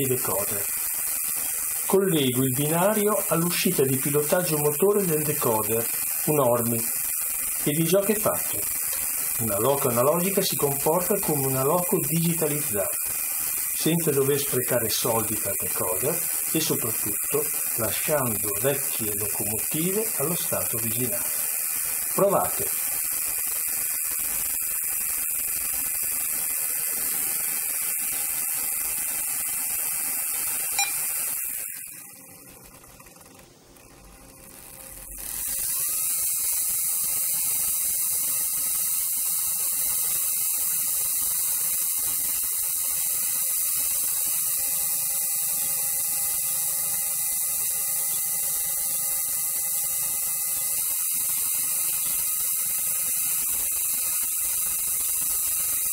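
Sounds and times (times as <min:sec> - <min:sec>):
model train motor whirring: 0:00.0 - 0:55.9.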